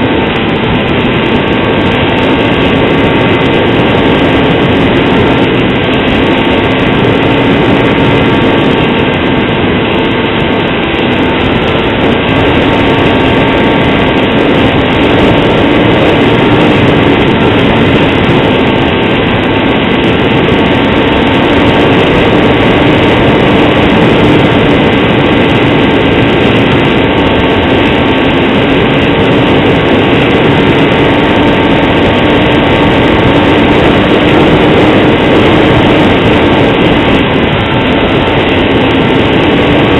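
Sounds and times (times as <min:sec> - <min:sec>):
model plane motor and propeller: 0:00.0 - 0:39.9
wind rush: 0:00.0 - 0:39.9.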